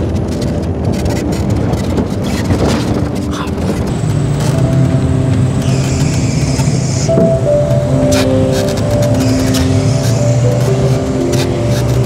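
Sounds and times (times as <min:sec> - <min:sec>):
vehicle engine driving on dirt: 0:00.0 - 0:12.0.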